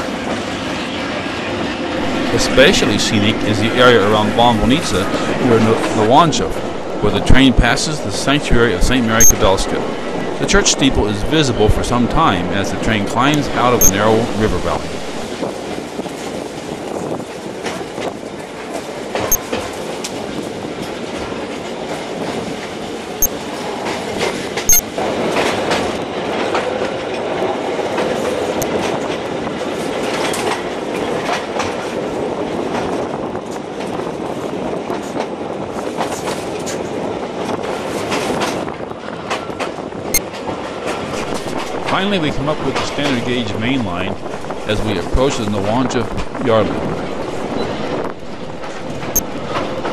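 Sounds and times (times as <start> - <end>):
train wheels rumbling and clacking: 0.0 - 49.9.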